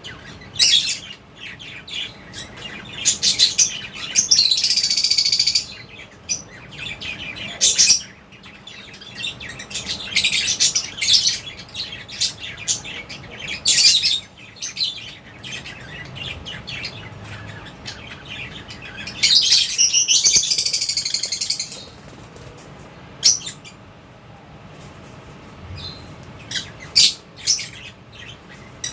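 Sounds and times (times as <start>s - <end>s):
lovebirds chirping: 0.0s - 24.0s, 25.7s - 28.9s.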